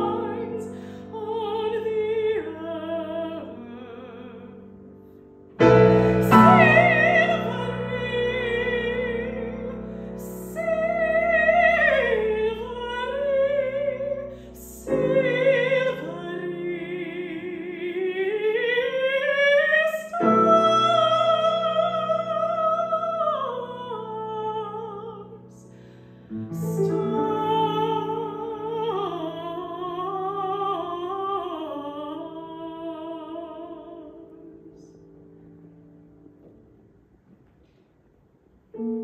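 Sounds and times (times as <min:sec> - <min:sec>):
woman singing operatically: 0:00.0 - 0:04.6, 0:06.1 - 0:25.6, 0:26.6 - 0:35.0
piano accompaniment: 0:00.0 - 0:37.8, 0:38.6 - 0:39.0.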